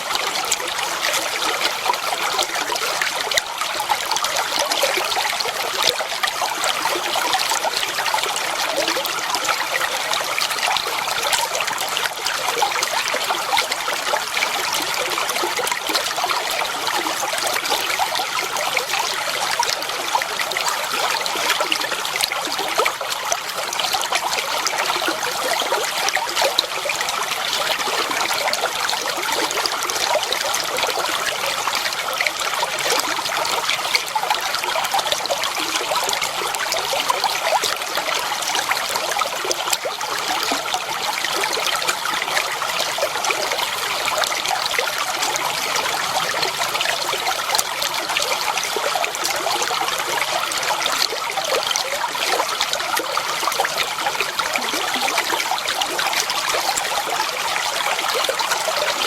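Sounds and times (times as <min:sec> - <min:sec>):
water trickling over stones: 0:00.0 - 0:59.0.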